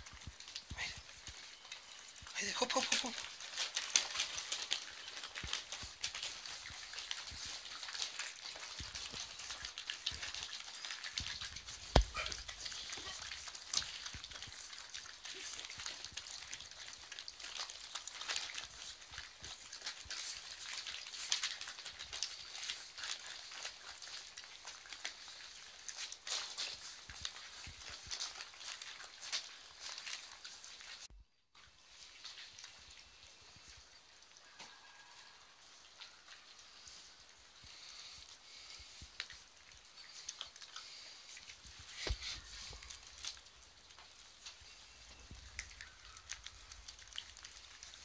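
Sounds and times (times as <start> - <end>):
puppies chewing dry kibble: 0.0 - 48.0.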